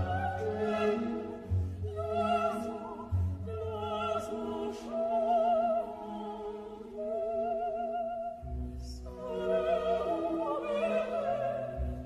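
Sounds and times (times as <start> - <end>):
operatic classical music: 0.0 - 12.0.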